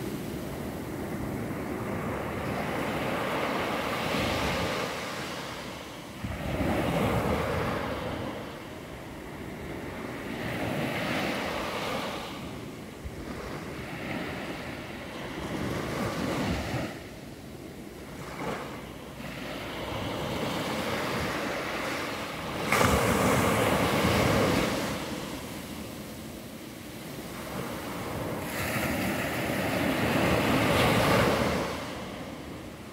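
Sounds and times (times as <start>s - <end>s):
small waves breaking on beach: 0.0s - 32.9s.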